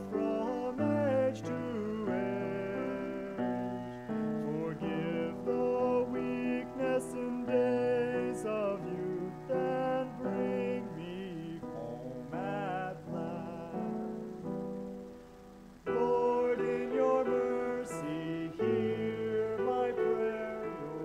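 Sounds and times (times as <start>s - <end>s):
man singing a chant: 0.0s - 3.8s, 4.4s - 14.3s, 15.9s - 21.0s
held keyboard chords: 0.0s - 21.0s.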